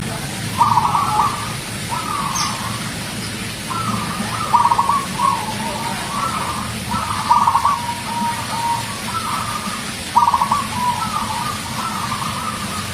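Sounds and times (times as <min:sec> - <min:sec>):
dove cooing: 0:00.0 - 0:12.9.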